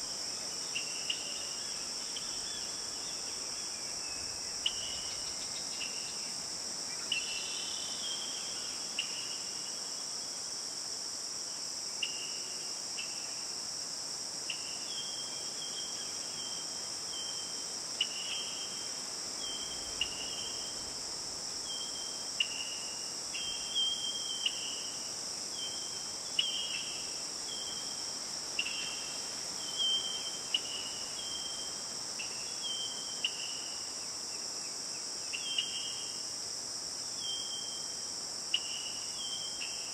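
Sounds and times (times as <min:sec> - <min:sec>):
cricket chorus: 0:00.0 - 0:39.9.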